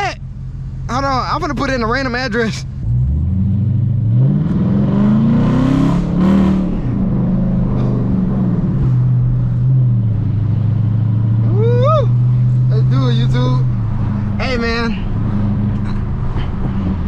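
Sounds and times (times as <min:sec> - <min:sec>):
car engine revving and droning: 0:02.6 - 0:17.0.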